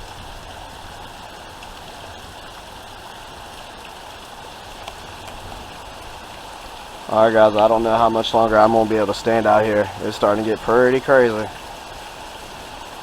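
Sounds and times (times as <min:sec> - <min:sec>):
wind rumbling on microphone: 0:00.0 - 0:03.8, 0:04.6 - 0:13.0
heavy rain hissing: 0:00.0 - 0:13.0.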